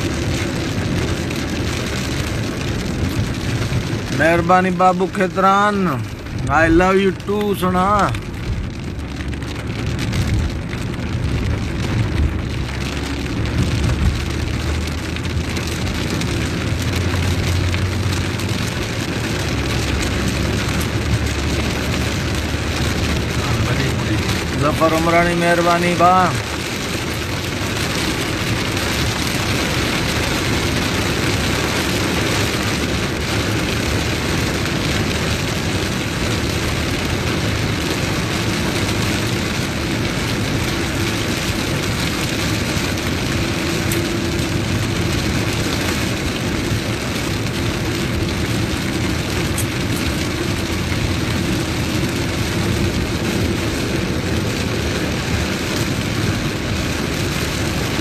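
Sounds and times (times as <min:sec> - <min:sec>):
engine and road noise: 0:00.0 - 0:58.0
heavy rain on car roof: 0:00.0 - 0:58.0.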